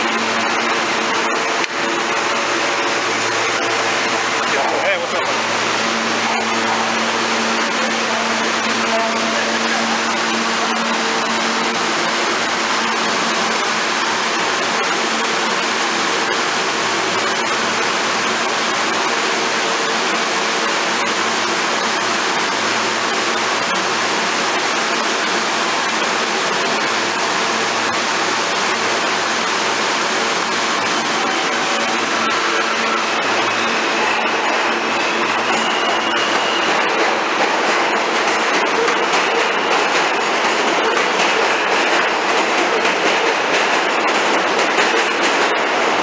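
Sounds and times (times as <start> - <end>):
subway train wheels on rails: 0.0 - 46.0.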